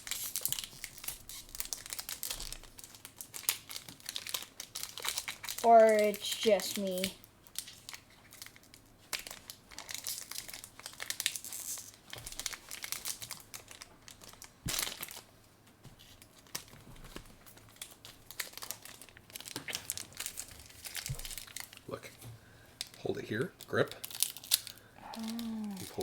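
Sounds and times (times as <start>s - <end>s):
foil wrapper crinkling: 0.0s - 15.3s, 16.0s - 22.1s, 22.8s - 26.0s.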